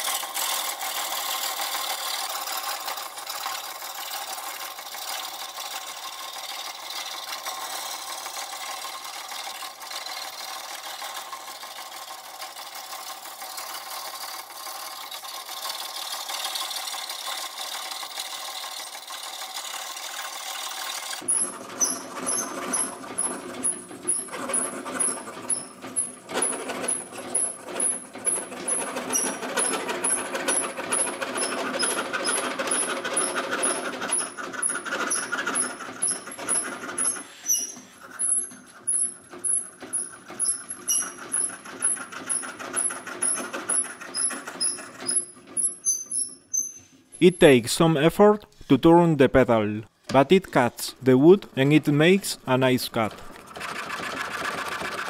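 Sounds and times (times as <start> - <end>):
scroll saw cutting wood: 0.0 - 47.1, 50.1 - 55.0.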